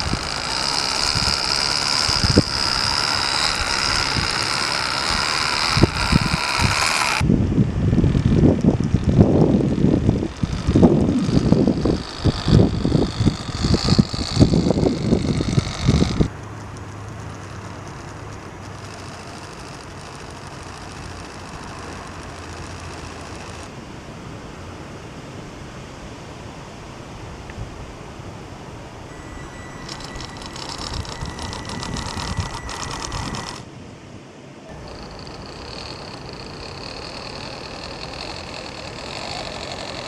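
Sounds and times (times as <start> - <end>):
small electric motor whining: 0.0 - 23.7, 29.1 - 33.7, 34.6 - 40.0.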